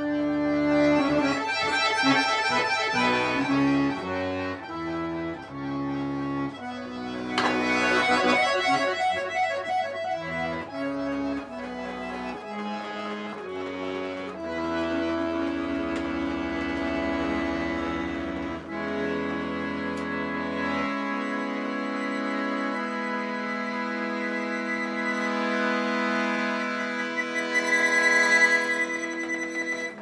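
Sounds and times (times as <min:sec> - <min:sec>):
accordion playing: 0:00.0 - 0:30.0.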